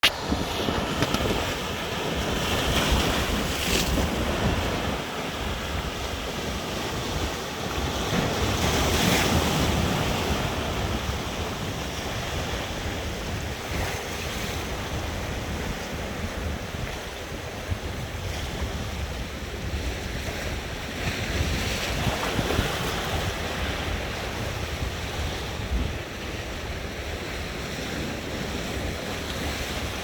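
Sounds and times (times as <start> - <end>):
sea waves rushing surf: 0.0 - 30.0
wind rumbling on microphone: 0.0 - 30.0.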